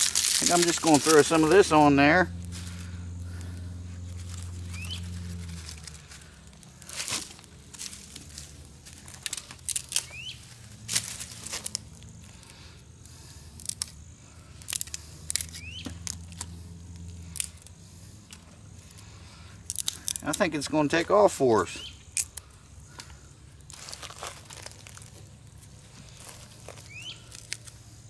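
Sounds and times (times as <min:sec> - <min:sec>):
dry grass crackling: 0:00.0 - 0:21.1, 0:21.9 - 0:28.0
low steady hum: 0:00.0 - 0:28.0.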